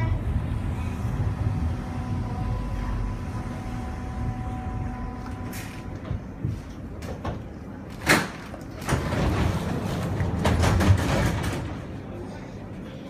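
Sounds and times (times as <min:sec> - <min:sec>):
railway car rumble and whine: 0:00.0 - 0:13.0.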